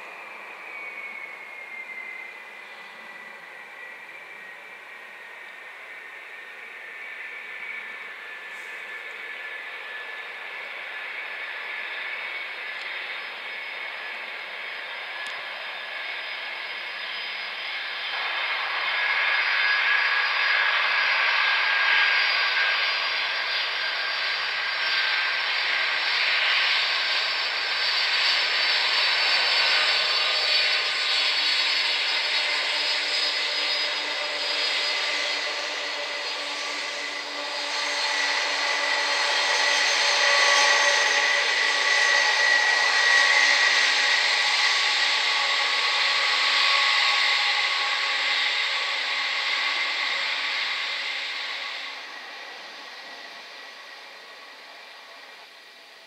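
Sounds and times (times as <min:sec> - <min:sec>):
jet engine roar and whine: 0:00.0 - 0:56.0.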